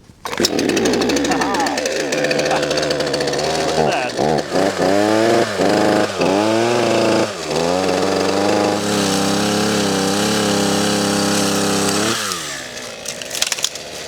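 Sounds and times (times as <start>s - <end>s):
chainsaw engine revving: 0.3s - 14.0s.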